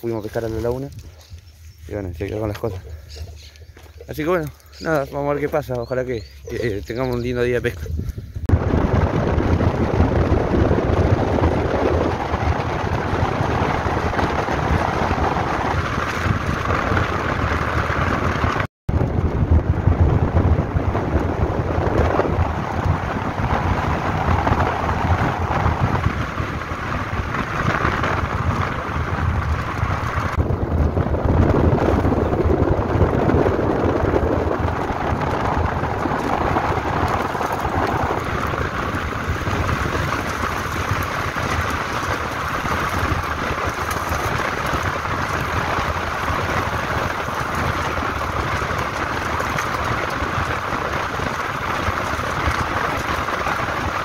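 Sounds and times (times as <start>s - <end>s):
tyres on gravel road: 0.0s - 54.0s
wind buffeting microphone: 0.0s - 54.0s.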